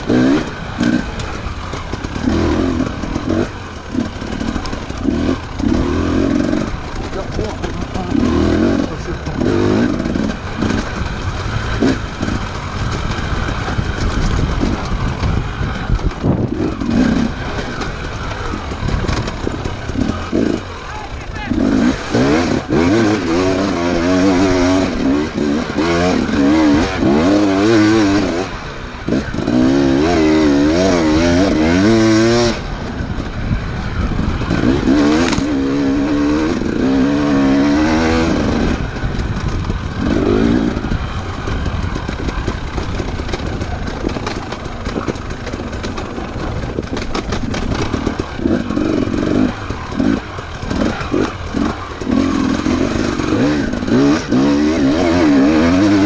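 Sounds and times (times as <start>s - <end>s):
engine clattering: 0.0s - 56.0s
motorcycle engines revving: 0.0s - 56.0s.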